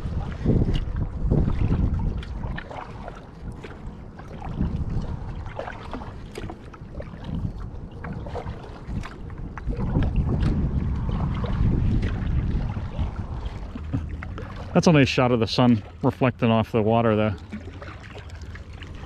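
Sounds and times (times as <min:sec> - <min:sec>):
water splashing from paddle strokes: 0:00.0 - 0:19.0
wind rumble on microphone: 0:00.0 - 0:19.0.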